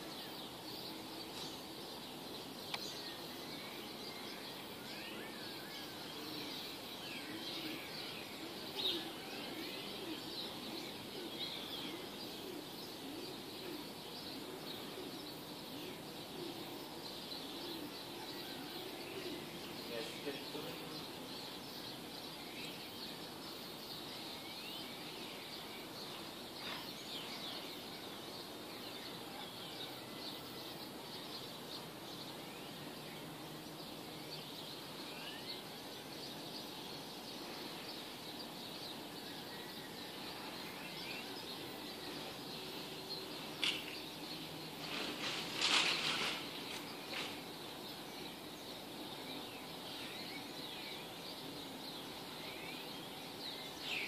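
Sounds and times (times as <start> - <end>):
faint background hiss: 0.0 - 54.0
small birds chirping and twittering: 0.0 - 54.0.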